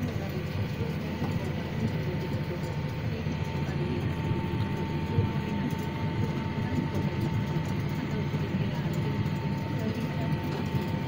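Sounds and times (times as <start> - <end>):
thin steady whine: 0.0 - 11.0.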